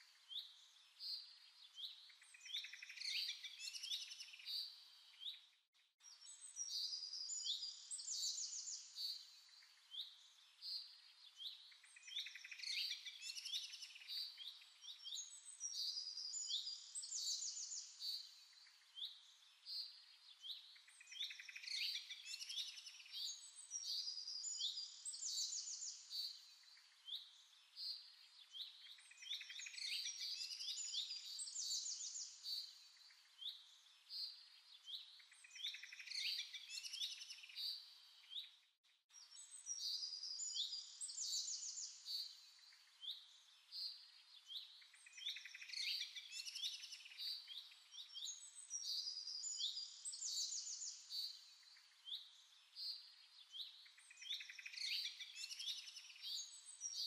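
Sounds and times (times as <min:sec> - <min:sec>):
birdsong with chirps and trills: 0:00.0 - 0:57.0.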